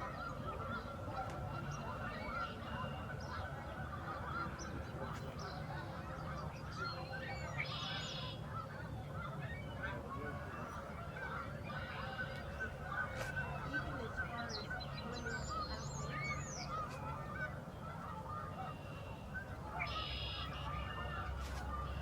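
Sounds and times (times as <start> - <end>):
higher clearer goose calls: 0.0 - 22.0
wild geese honking: 0.0 - 22.0.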